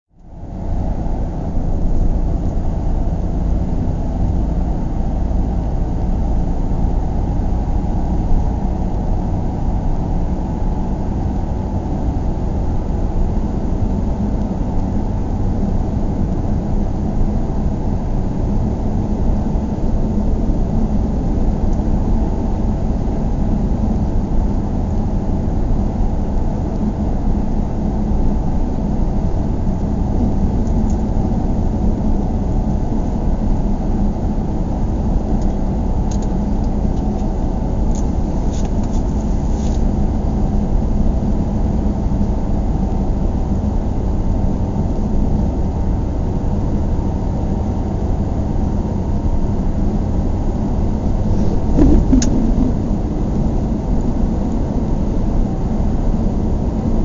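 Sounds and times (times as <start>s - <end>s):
vehicle low rumble: 0.1s - 57.0s.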